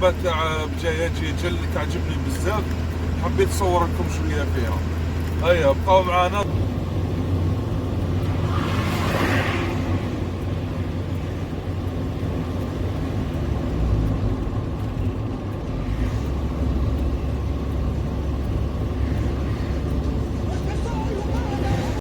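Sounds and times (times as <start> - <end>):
road noise: 0.0 - 22.0
truck engine droning: 0.0 - 22.0.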